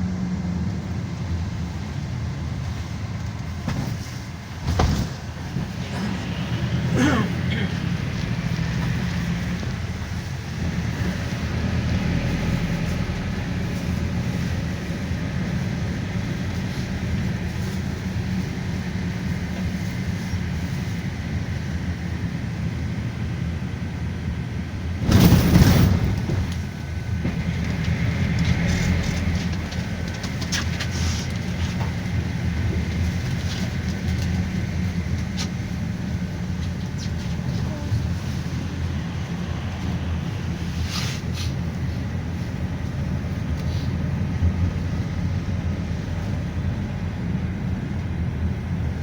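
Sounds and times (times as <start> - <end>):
engine and road rumble: 0.0 - 49.0.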